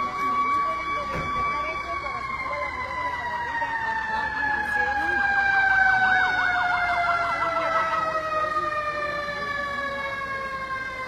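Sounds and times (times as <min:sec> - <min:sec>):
fast warbling siren: 0:00.0 - 0:11.0
steady falling siren tone: 0:00.0 - 0:11.0.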